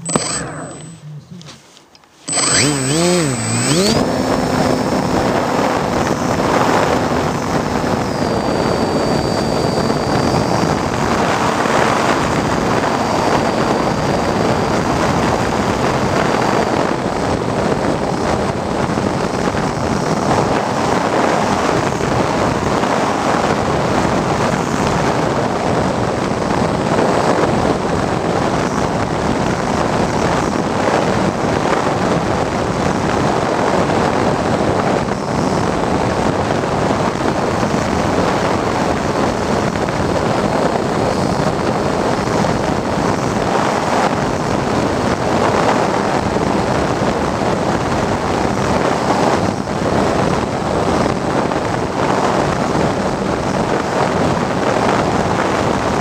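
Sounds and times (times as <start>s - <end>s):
propeller motor whine: 0.0s - 53.4s
wind rush over microphone: 2.3s - 56.0s.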